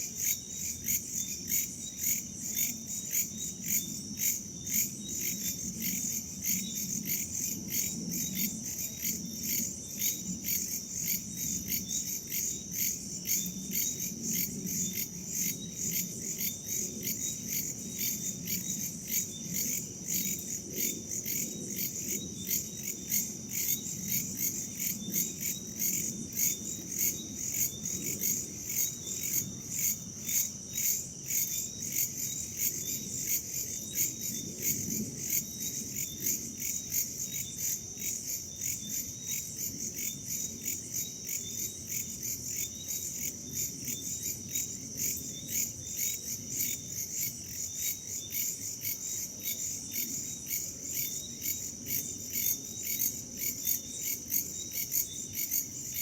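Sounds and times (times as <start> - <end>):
crickets chirping: 0.0 - 56.0
high steady insect trill: 0.0 - 56.0.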